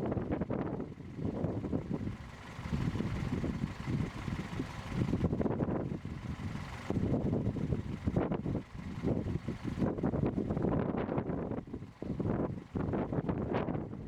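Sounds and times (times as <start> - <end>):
gusty wind on microphone: 0.0 - 14.0.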